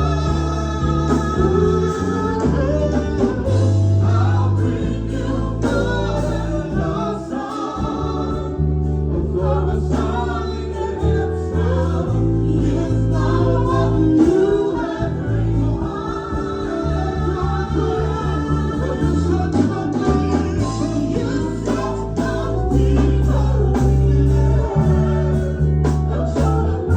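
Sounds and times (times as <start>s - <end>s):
band with heavy bass: 0.0s - 26.9s
choir singing: 0.0s - 26.9s.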